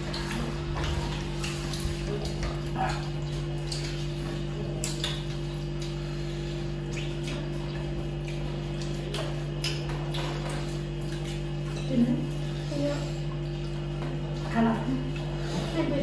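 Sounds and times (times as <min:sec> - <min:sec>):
people chewing and eating: 0:00.0 - 0:16.0
steady low hum: 0:00.0 - 0:16.0.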